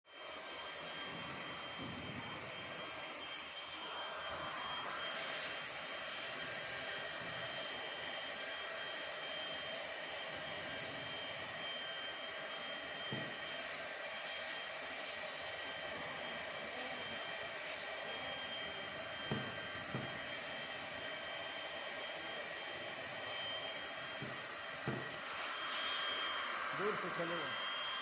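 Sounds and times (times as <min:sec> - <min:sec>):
hot-air gun hissing and whining: 0:00.1 - 0:28.0.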